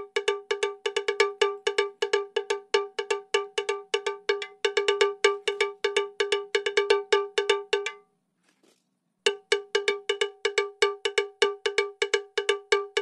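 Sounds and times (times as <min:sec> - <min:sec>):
cowbell-like percussion: 0:00.0 - 0:08.0, 0:09.3 - 0:13.0.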